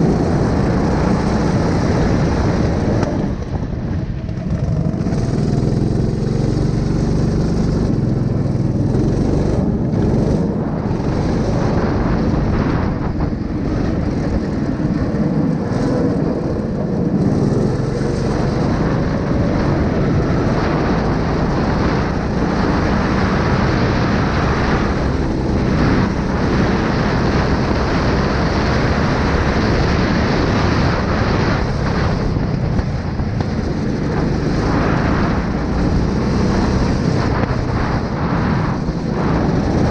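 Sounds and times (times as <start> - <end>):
engine running loudly: 0.0 - 39.9.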